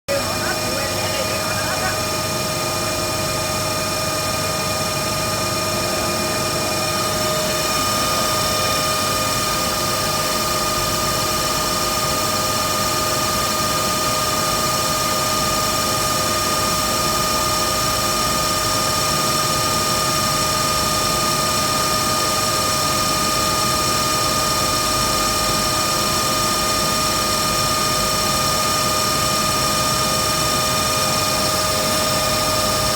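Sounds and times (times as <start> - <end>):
blower running with whine: 0.1 - 32.9.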